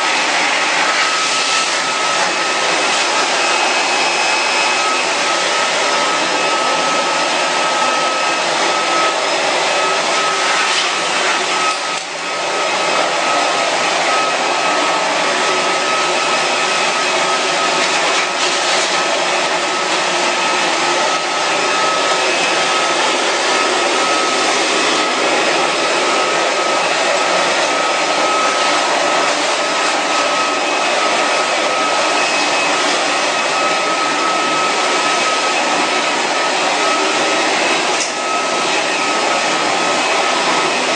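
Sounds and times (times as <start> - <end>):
electric fan motor whining: 0.0 - 40.9.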